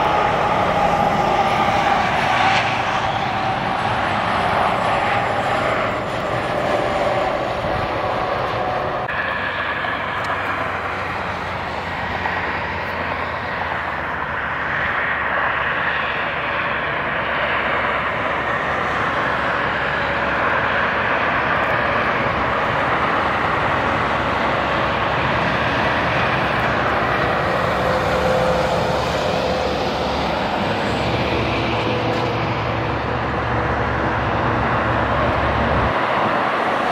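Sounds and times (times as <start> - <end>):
highway traffic noise: 0.0 - 36.9.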